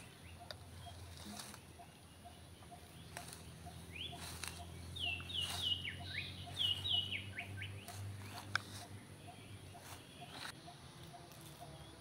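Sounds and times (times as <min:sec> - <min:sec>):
grass rustling by hand: 0:00.0 - 0:11.9
bird chirping: 0:00.0 - 0:12.0.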